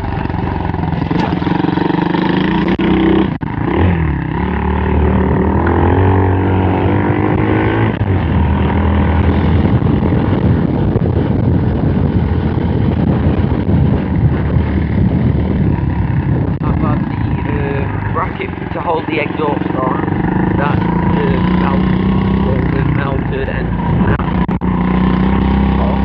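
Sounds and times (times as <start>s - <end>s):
small motorcycle engine revving: 0.0s - 26.0s.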